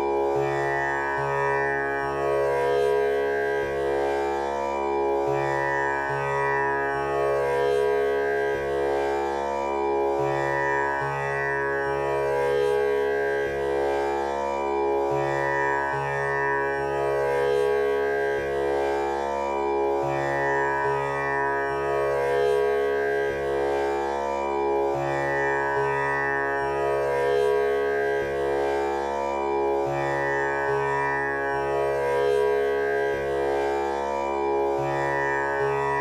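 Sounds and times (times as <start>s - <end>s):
plucked tanpura strings: 0.0s - 36.0s
tanpura drone: 0.0s - 36.0s.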